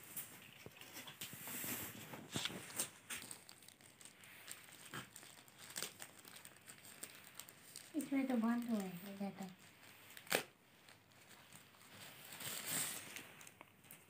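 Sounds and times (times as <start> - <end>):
paper and bag crinkling: 0.0 - 14.0.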